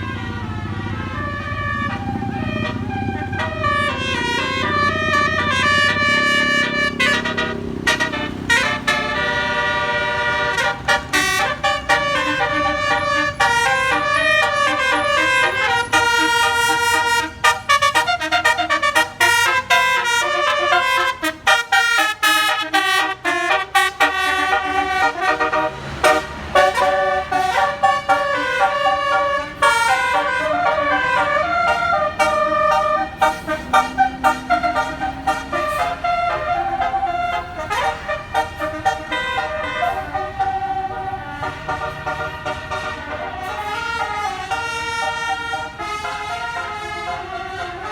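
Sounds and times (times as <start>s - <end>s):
bus engine running: 0.0s - 47.9s
musical air horn melody: 0.0s - 47.9s.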